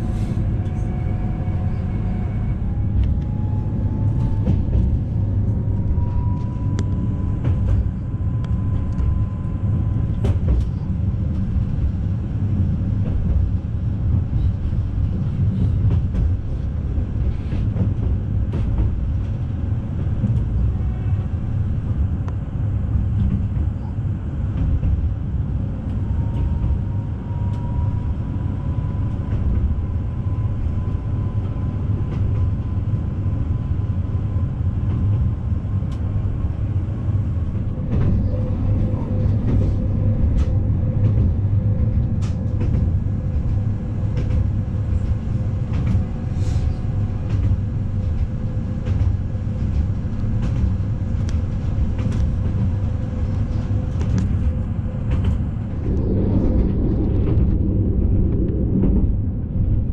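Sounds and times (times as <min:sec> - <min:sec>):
wheels rumbling on rails: 0:00.0 - 0:59.9.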